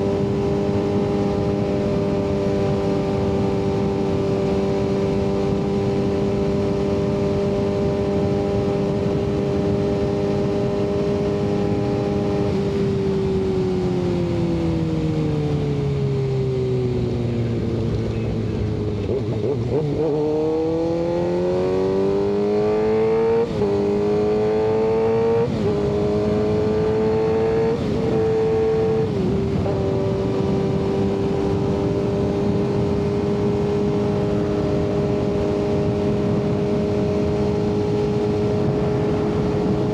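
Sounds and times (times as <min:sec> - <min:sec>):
motorcycle engine cruising and shifting: 0:00.0 - 0:39.9.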